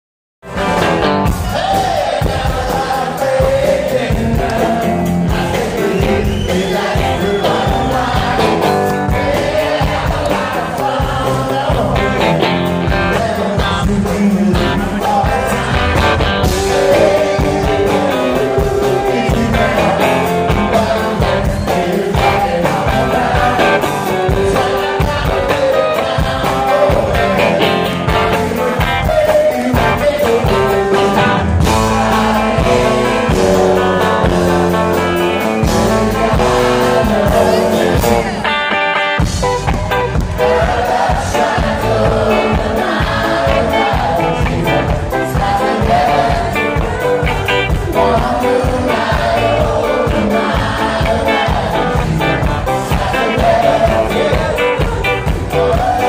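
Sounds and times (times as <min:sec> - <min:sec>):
live rock band playing: 0:00.4 - 0:56.0
man singing lead vocals: 0:00.5 - 0:39.2, 0:40.3 - 0:56.0.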